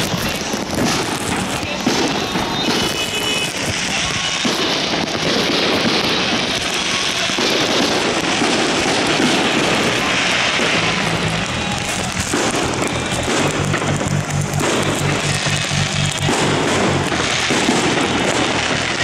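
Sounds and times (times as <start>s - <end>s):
fireworks crackling and popping: 0.0s - 19.0s.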